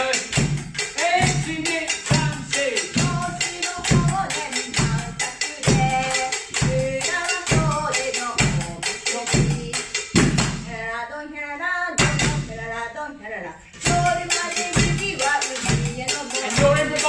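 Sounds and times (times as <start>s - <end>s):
drumming on pots and buckets: 0.0s - 10.7s, 12.0s - 12.5s, 13.8s - 17.0s
person singing: 1.0s - 9.9s, 11.9s - 17.0s.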